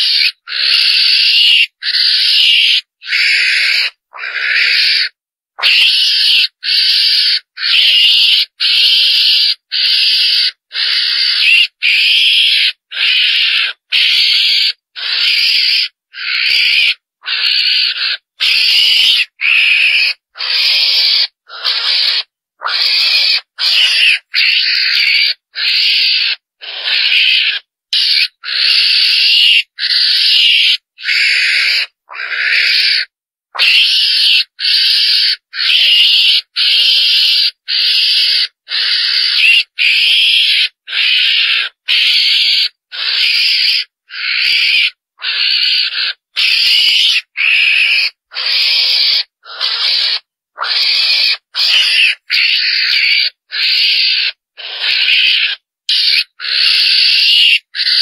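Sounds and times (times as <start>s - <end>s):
scratchy hiss-like animal calls: 0.0s - 58.0s.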